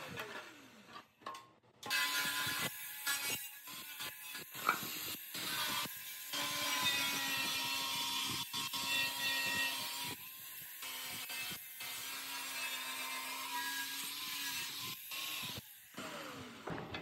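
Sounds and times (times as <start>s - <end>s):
angle grinder grinding steel: 1.8s - 16.6s.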